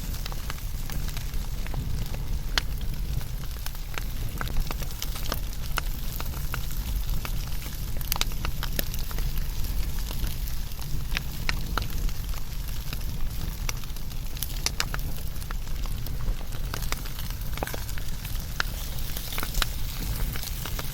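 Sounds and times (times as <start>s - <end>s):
burning logs crackling and popping: 0.0s - 20.9s
fire rumbling and hissing: 0.0s - 20.9s.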